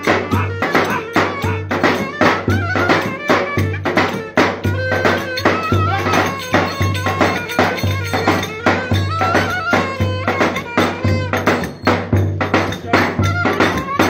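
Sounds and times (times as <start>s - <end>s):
folk band wedding music: 0.0s - 14.0s.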